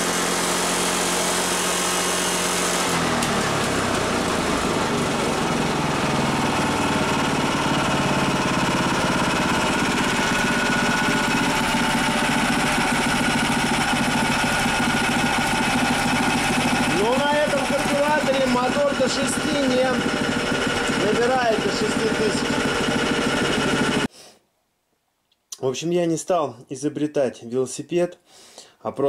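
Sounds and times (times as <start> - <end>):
four-stroke engine running: 0.0 - 24.1.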